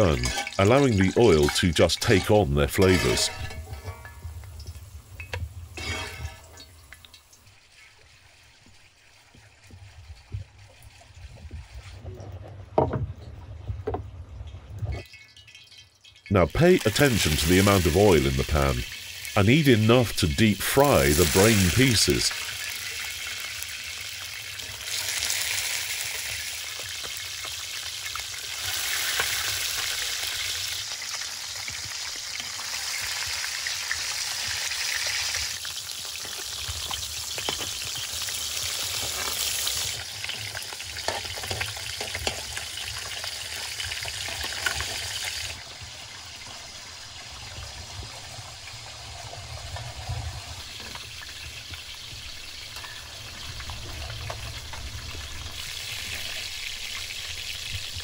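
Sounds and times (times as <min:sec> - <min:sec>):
oil sizzling and crackling: 0:00.0 - 0:12.1, 0:14.2 - 0:58.0.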